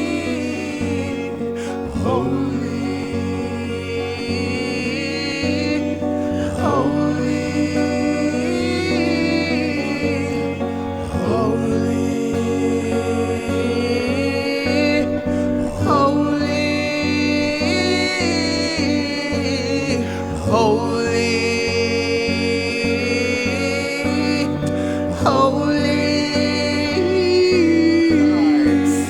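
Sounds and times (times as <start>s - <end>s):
held instrumental chords: 0.0s - 29.0s
person singing: 0.0s - 29.0s.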